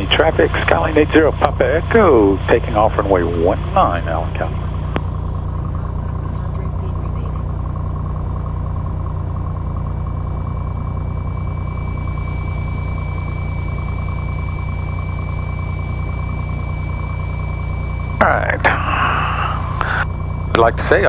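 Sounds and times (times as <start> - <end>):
thin high whine: 0.0 - 6.8, 9.3 - 21.0
propeller plane engine running: 0.0 - 21.0.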